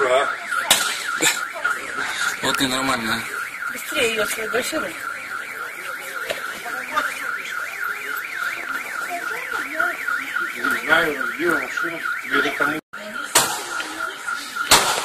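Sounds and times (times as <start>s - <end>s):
car alarm warbling: 0.0s - 15.0s.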